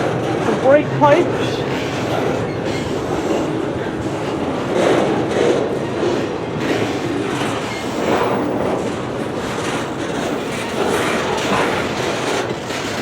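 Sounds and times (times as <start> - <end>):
freight train wheels rolling on rails: 0.0 - 13.0.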